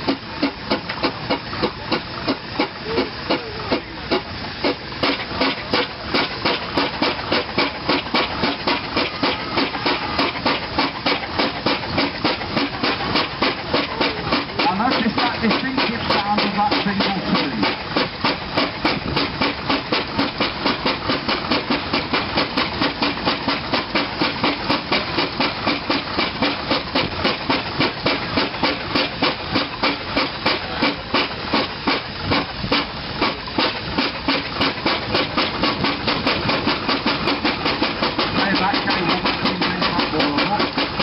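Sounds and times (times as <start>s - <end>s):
steam engine exhaust beats: 0.0s - 41.0s.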